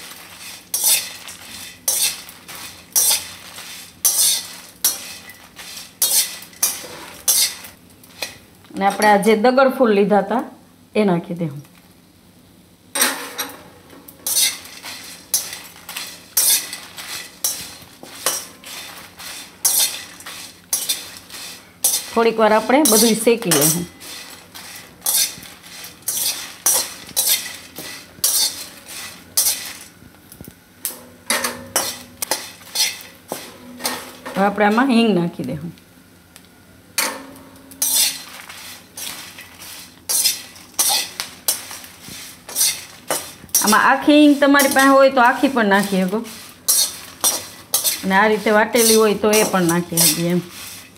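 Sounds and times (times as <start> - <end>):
metal spatula scraping dry spices: 0.0 - 9.1, 14.2 - 29.9, 31.4 - 35.1, 37.8 - 50.9.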